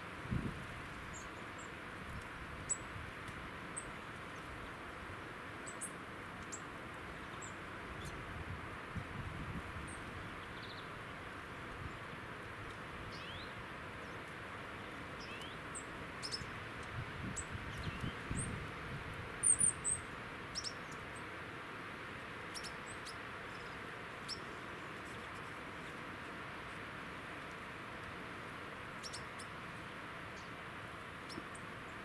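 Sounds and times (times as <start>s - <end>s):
background hiss: 0.0s - 32.0s.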